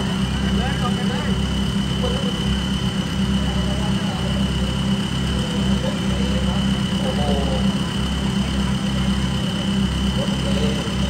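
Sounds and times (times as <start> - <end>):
vehicle engine running low revs: 0.0 - 11.0.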